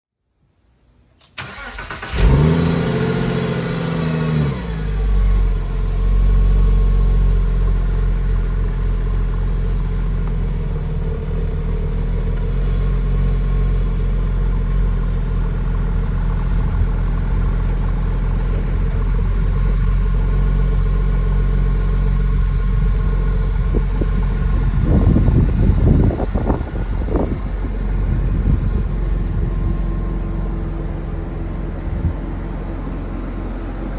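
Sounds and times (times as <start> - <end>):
car engine starting and idling: 1.2 - 33.9.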